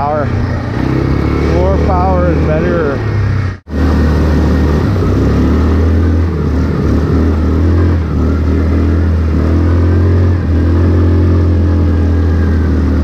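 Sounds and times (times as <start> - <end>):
atv engine running under load: 0.0 - 13.0.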